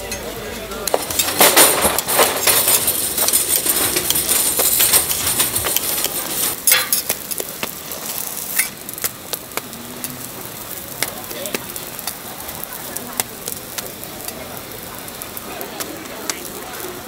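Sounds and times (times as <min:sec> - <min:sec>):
metal utensils scraping on griddle: 0:00.0 - 0:17.0.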